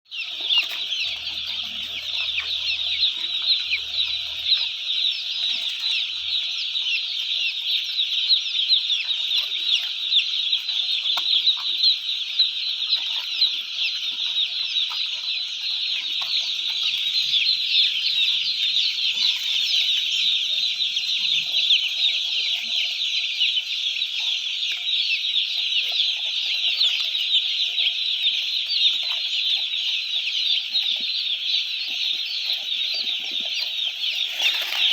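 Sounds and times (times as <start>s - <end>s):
chickens peeping and chirping: 0.1s - 34.9s.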